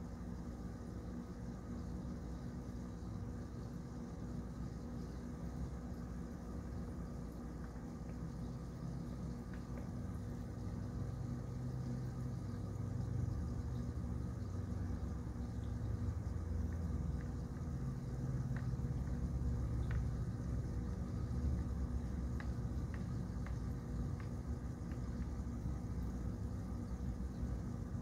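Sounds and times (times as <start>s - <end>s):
room background rumble and hum: 0.0s - 28.0s
faint ticks: 1.7s - 28.0s.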